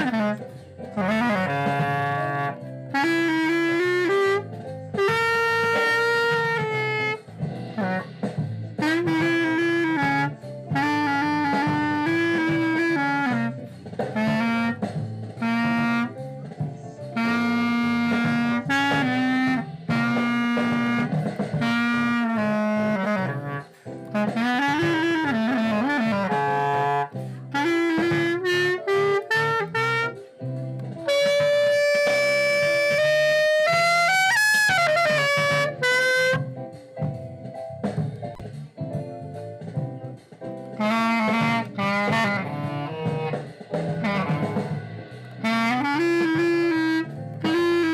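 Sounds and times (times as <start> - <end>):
clarinet melody: 0.0 - 47.9.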